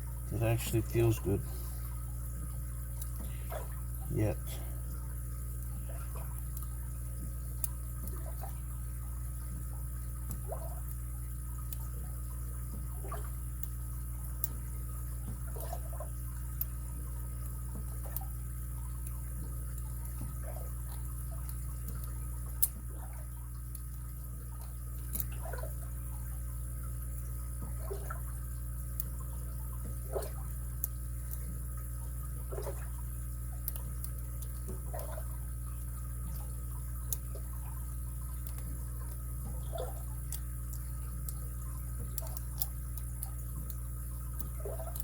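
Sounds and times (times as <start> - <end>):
steady background hum: 0.0 - 45.0.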